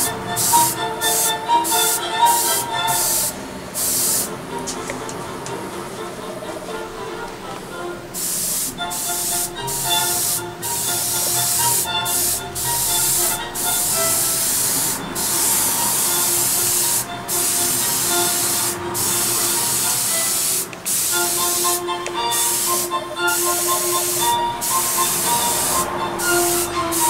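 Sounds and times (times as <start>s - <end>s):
airbrush hissing: 0.0s - 4.3s, 8.2s - 27.0s.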